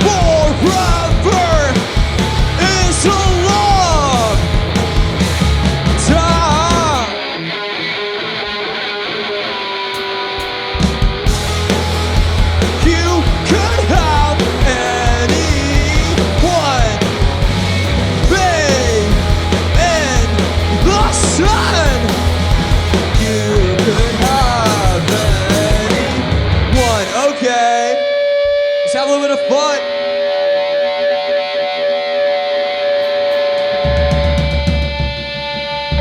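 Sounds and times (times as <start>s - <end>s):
rock band playing loud: 0.0s - 36.0s
sliding lead guitar: 0.0s - 36.0s.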